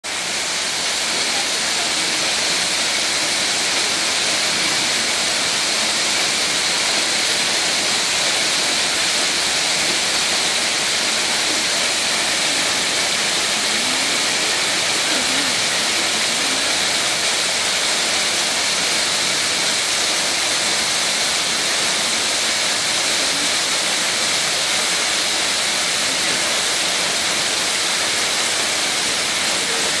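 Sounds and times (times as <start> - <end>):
waterfall splashing onto stones: 0.0 - 30.0.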